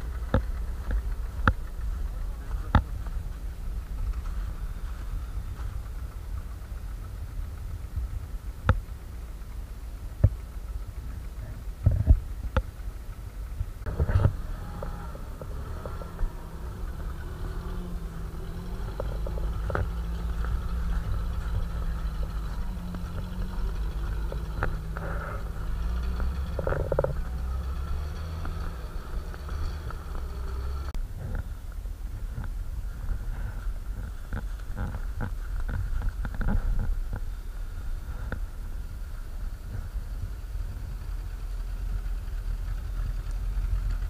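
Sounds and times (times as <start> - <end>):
off-road vehicle engine drone: 0.0 - 44.0.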